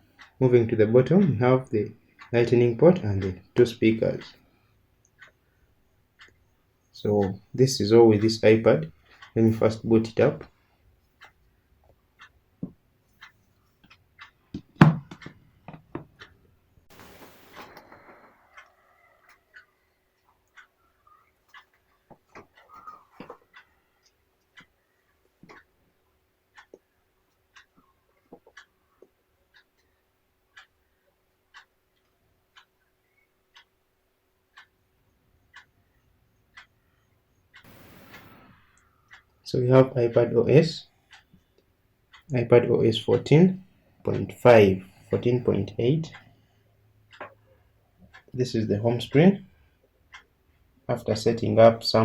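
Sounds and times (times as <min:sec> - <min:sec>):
clock ticking faintly: 0:00.0 - 0:52.0.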